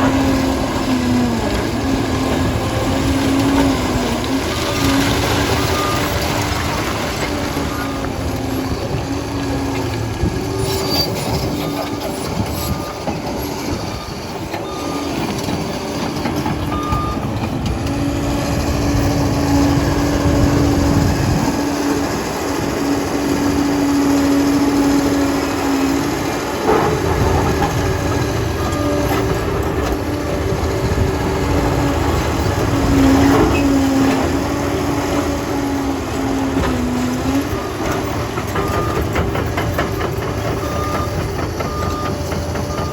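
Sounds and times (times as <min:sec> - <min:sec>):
diesel engine running: 0:00.0 - 0:42.9
steel tracks knocking and clanking: 0:00.0 - 0:42.9.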